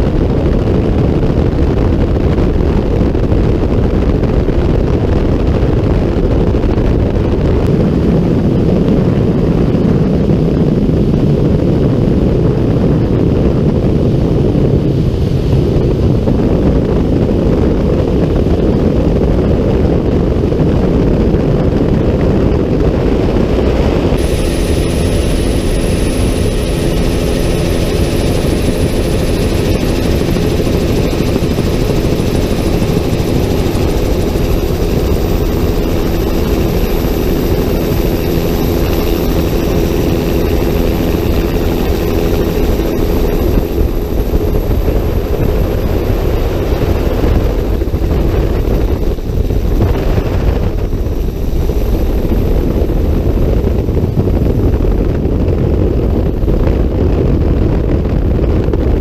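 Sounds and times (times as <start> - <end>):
helicopter rotor and engine rumble: 0.0 - 59.0
high turbine whine: 0.0 - 59.0.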